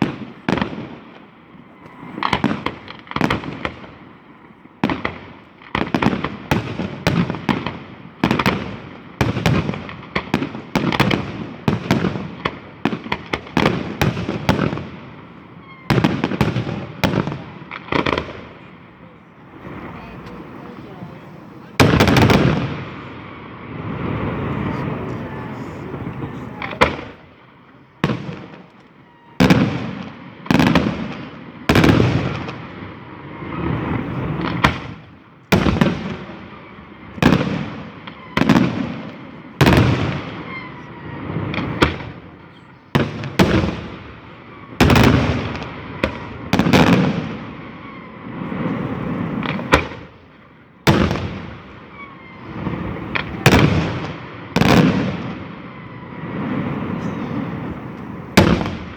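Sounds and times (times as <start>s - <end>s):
fireworks bursting: 0.0s - 58.9s.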